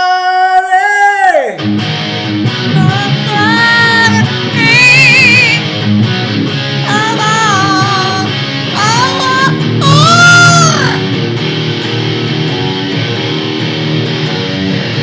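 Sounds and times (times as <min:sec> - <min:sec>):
electric guitar rock chords: 0:01.6 - 0:15.0.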